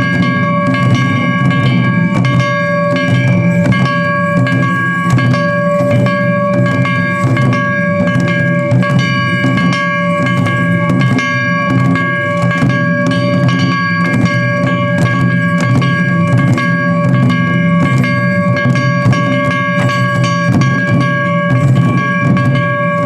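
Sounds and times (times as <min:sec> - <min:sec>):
drums in fast rhythm: 0:00.0 - 0:23.0
held high ringing note: 0:00.0 - 0:23.0.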